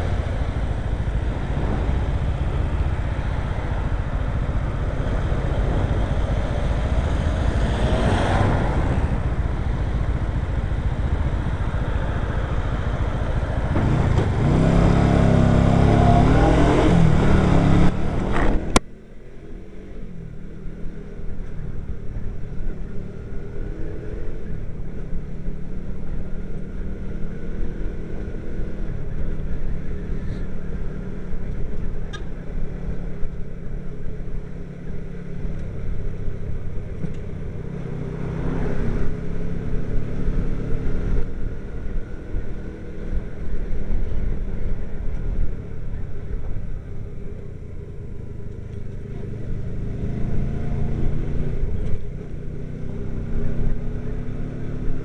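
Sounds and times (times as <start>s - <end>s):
low road rumble: 0.0s - 55.0s.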